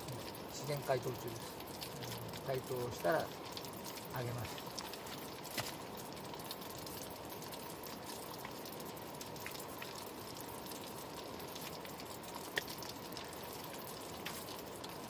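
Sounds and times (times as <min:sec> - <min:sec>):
hot oil sizzling: 0:00.0 - 0:15.0
oil pops and crackles: 0:00.0 - 0:15.0.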